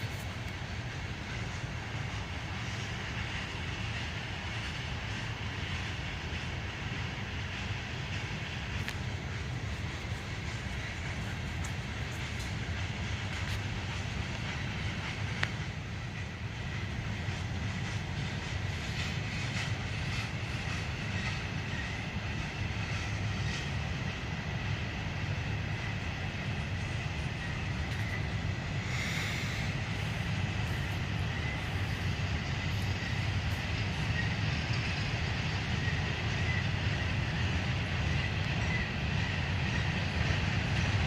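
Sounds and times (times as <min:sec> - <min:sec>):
freight train rumbling past: 0:00.0 - 0:41.0
wheels clicking over rail joints: 0:00.0 - 0:41.0.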